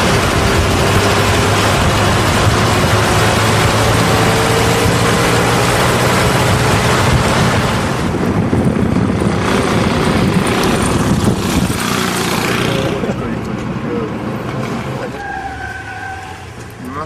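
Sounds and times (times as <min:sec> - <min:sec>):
car engine hum: 0:00.0 - 0:17.0
road and air rush: 0:00.0 - 0:17.0.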